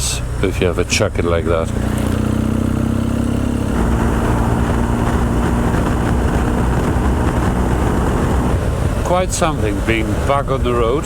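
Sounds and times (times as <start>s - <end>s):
motorcycle engine running: 0.0s - 11.0s
wind rush: 1.6s - 11.0s.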